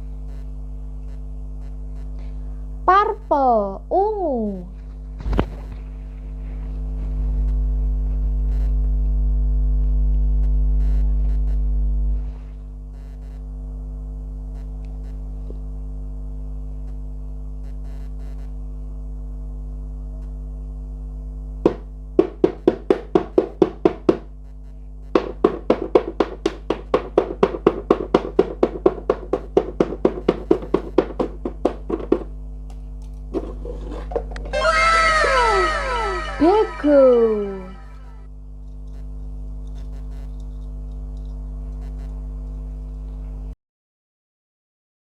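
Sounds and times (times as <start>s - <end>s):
steady low hum: 0.0s - 34.6s, 35.7s - 43.6s.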